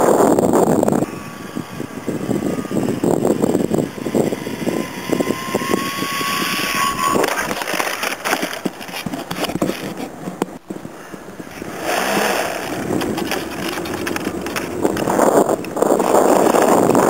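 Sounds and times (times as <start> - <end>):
wind buffeting microphone: 0.0 - 17.0
model plane motor whining: 0.3 - 17.0.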